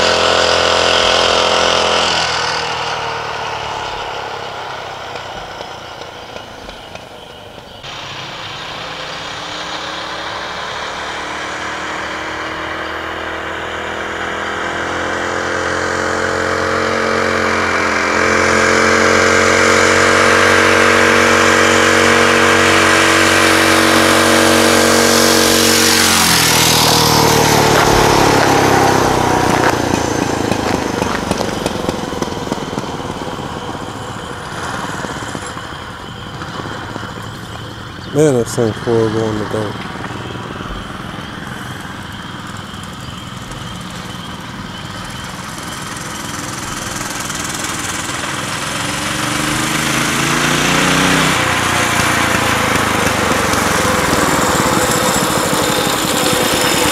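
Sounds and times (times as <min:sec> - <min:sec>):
small motorbike engine passing: 0:00.0 - 0:56.9.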